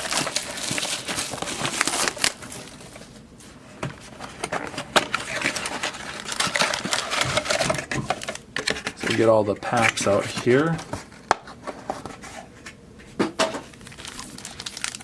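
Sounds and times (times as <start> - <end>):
packaging rustling and crinkling: 0.0 - 12.8, 13.6 - 15.0.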